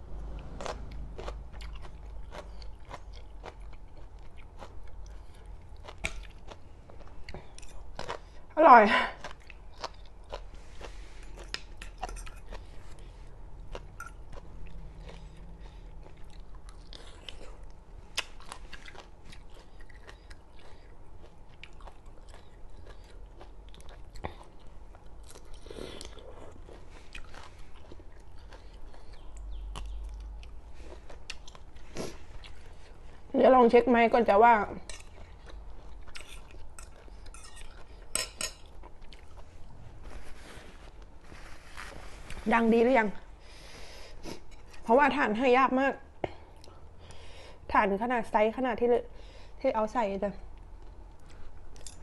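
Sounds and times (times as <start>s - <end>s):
low steady hum: 0.0s - 52.0s
chewing and crunching: 0.2s - 45.0s, 50.4s - 52.0s.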